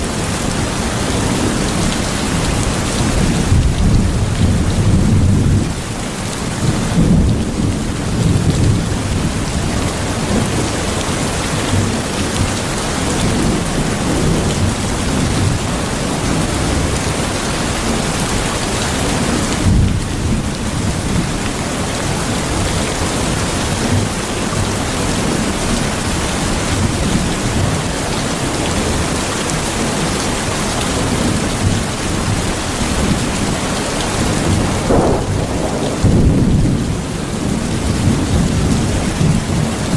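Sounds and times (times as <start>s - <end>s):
steady rain: 0.0s - 39.9s
low thunder rumbling: 0.2s - 29.2s, 31.0s - 39.9s.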